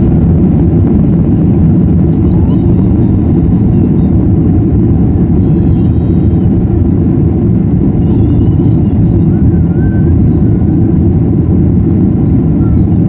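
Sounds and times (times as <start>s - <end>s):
jet engines heard from cabin: 0.0s - 13.0s.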